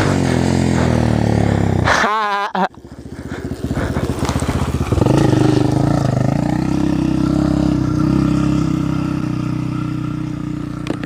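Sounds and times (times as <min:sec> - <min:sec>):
dirt bike engine accelerating: 0:00.0 - 0:11.0.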